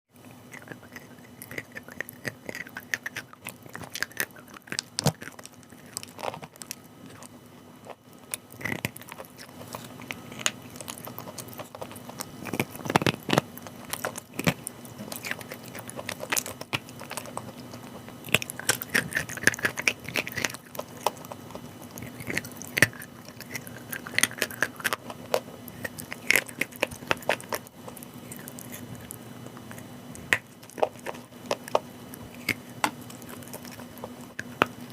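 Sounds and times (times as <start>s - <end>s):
faint steady hum: 0.1s - 34.9s
chalk being chewed: 0.2s - 34.9s.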